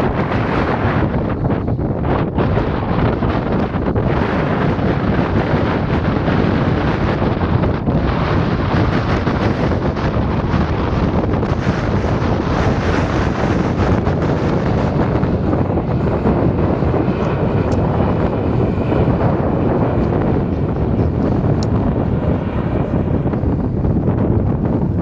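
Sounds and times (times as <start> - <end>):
jet engine roar: 0.0 - 25.0
wind buffeting microphone: 0.0 - 25.0.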